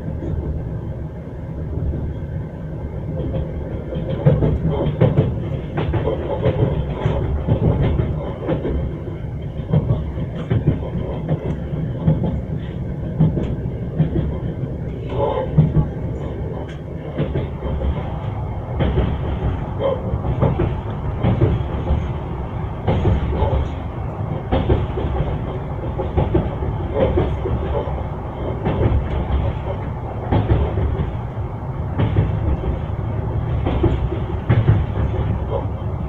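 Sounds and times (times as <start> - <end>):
railway carriage low rumble: 0.0 - 36.0
train wheels clacking over rail joints: 3.1 - 36.0.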